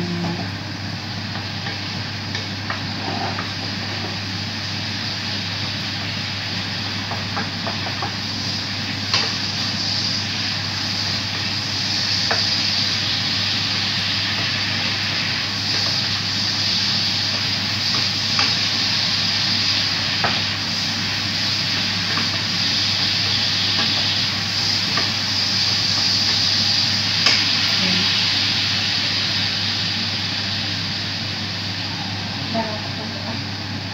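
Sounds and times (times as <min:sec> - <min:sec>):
sauce sizzling and bubbling: 0:00.0 - 0:33.9
steady low hum: 0:00.0 - 0:33.9.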